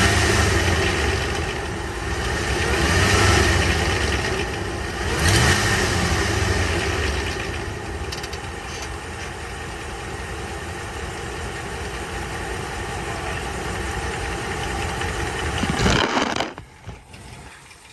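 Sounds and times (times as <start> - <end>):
engine knocking: 0.0 - 17.9
pickup engine running: 0.0 - 17.9.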